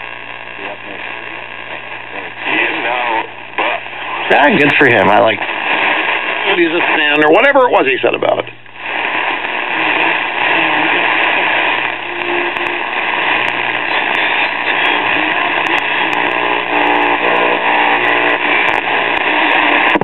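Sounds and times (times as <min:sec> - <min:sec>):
faint radio broadcast: 0:00.0 - 0:20.0
radio static and crackle: 0:00.0 - 0:20.0
steady low hum: 0:00.0 - 0:20.0.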